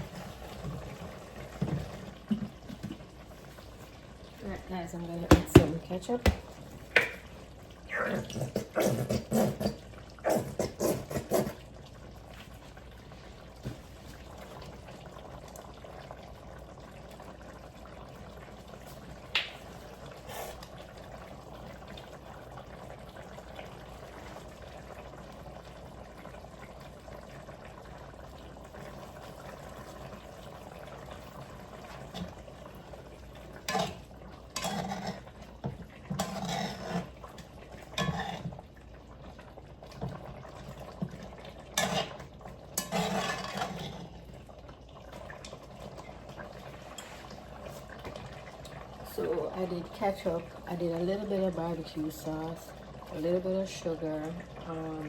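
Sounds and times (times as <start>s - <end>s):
sauce bubbling in pot: 0.0s - 55.0s.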